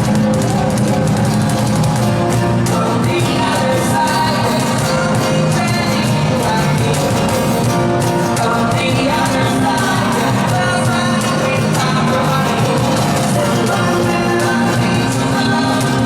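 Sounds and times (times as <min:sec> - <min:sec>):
live rock band: 0:00.0 - 0:16.0
person singing: 0:00.0 - 0:16.0.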